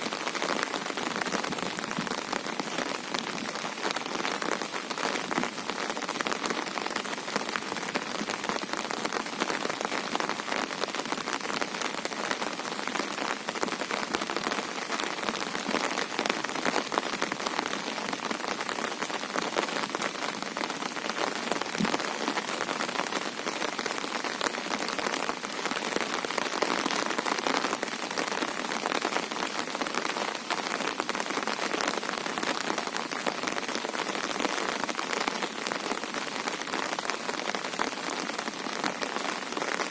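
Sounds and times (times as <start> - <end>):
heavy rain falling on a river: 0.0 - 39.9.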